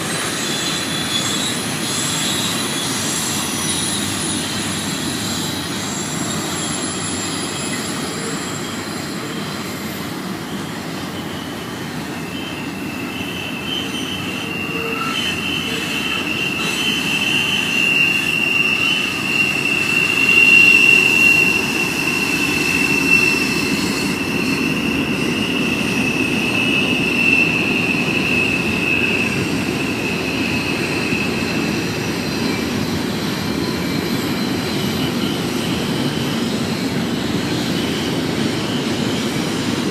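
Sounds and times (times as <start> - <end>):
freight train rumble: 0.0 - 39.9
high steady wheel squeal: 0.0 - 39.9.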